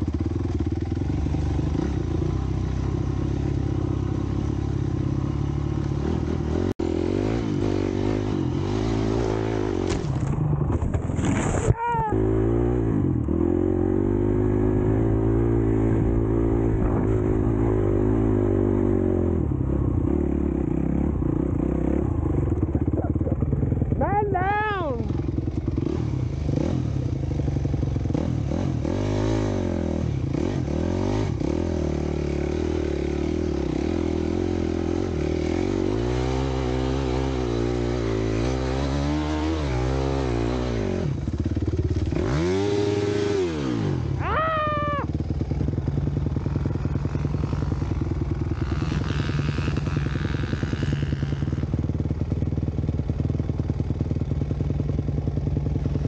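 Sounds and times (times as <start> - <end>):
dirt bike engine revving: 0.0 - 10.4, 11.4 - 52.4.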